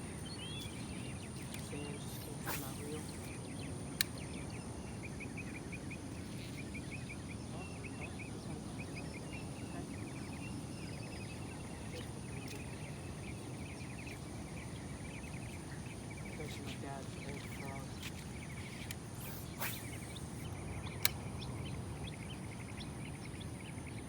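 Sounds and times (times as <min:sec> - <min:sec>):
insects clicking chirps: 0:00.0 - 0:24.0.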